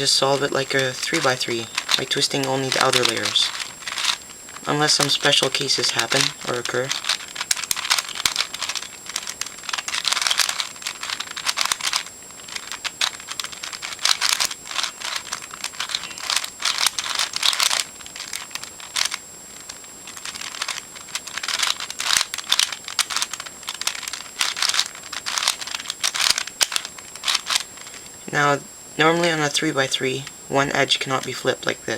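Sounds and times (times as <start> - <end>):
puzzle cube clicking: 0.0 - 28.1.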